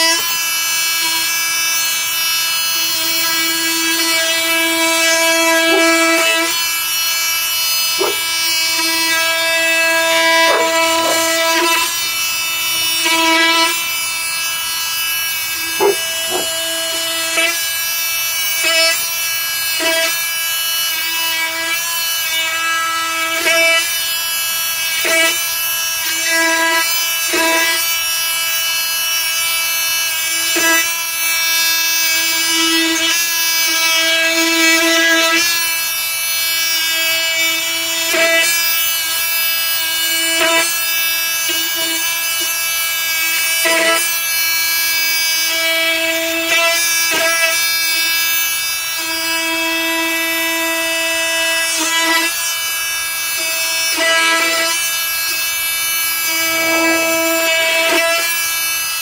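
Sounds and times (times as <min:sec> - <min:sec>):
oscillating multi-tool buzzing: 0:00.0 - 0:59.0.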